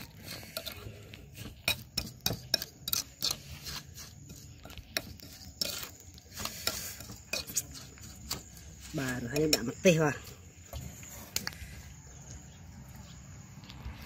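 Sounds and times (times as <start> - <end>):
metal spoon scraping a bowl: 0.0 - 11.8.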